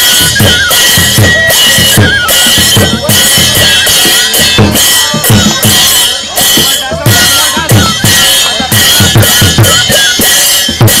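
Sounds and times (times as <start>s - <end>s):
cymbals clashing: 0.0s - 11.0s
drum beaten in steady pattern: 0.0s - 11.0s.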